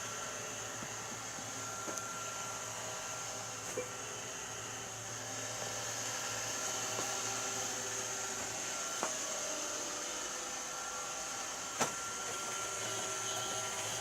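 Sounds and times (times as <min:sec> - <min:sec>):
robot vacuum cleaner running: 0:00.0 - 0:14.0.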